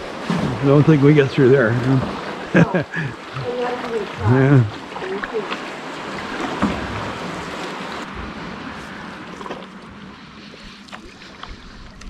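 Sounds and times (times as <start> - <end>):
paddle splashes: 0.0 - 12.0
water sloshing around canoe: 0.0 - 12.0.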